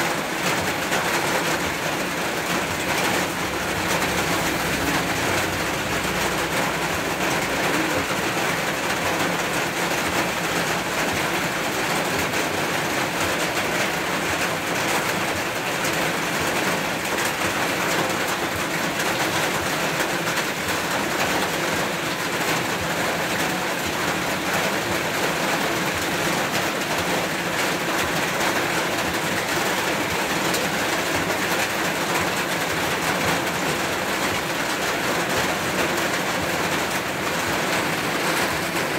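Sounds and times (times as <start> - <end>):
rain pouring: 0.0 - 38.9.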